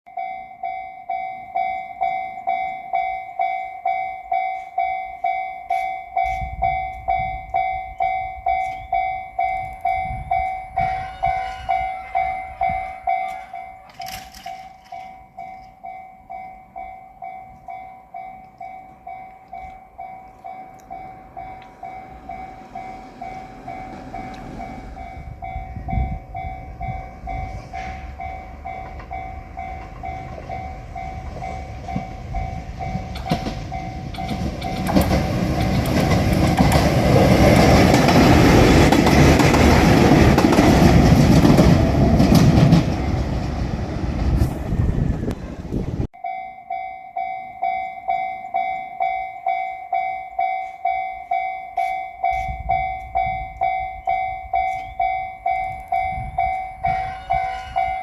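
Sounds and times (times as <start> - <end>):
level crossing warning bell: 0.1 - 58.0
diesel train passing: 1.4 - 46.3, 49.9 - 58.0.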